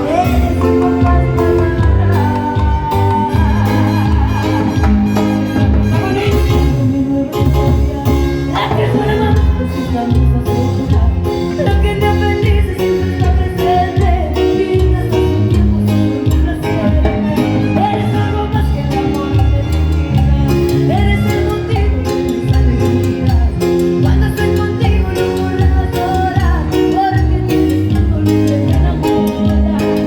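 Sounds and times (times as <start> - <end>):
live latin band playing: 0.0 - 30.0
person singing: 0.0 - 30.0.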